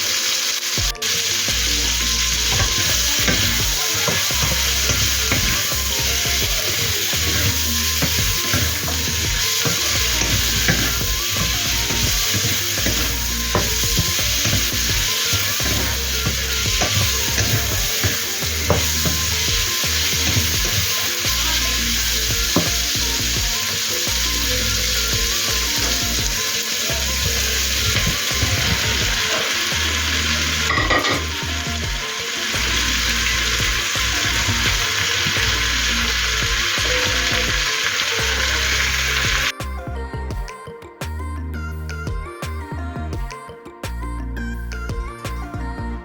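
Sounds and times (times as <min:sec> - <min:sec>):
pork and mushrooms sizzling in a pan: 0:00.0 - 0:39.5.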